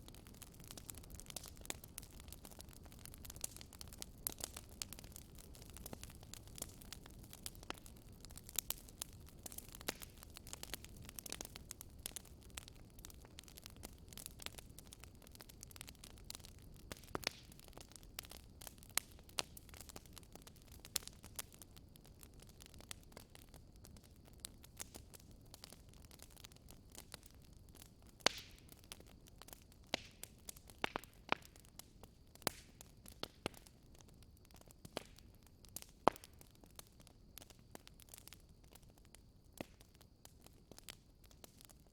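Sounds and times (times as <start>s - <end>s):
low rumble of flames: 0.0s - 41.9s
wood fire crackling and popping: 0.0s - 41.9s.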